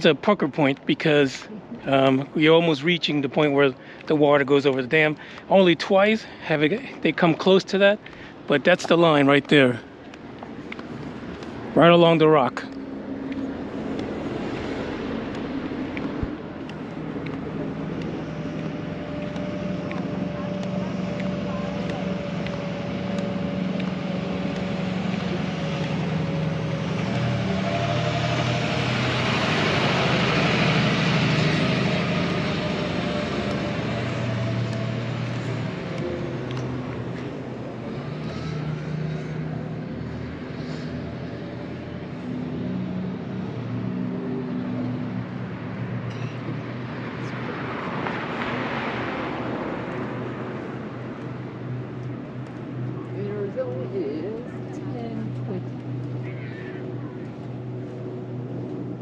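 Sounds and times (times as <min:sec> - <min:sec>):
vehicle engine and tyre noise: 0:00.0 - 0:59.0.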